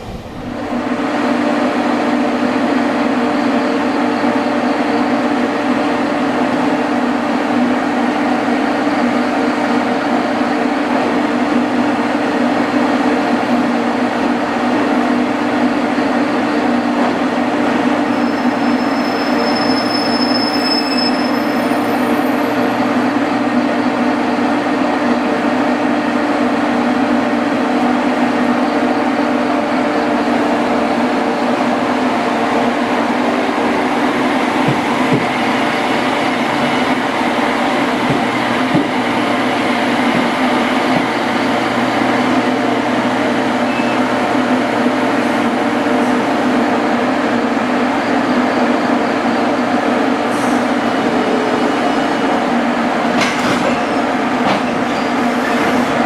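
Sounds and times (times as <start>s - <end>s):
electrical hum of trains: 0.0s - 56.0s
train creeping slowly: 0.0s - 56.0s.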